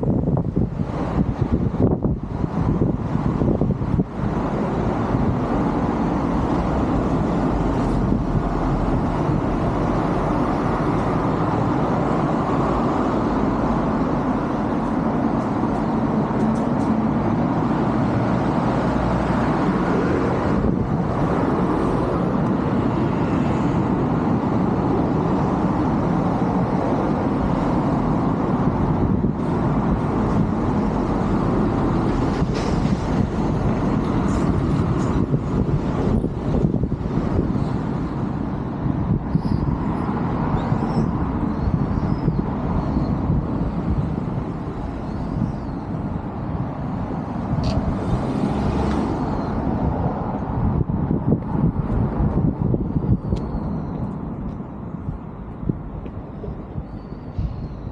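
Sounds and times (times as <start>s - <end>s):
road traffic rumble: 0.0s - 57.9s.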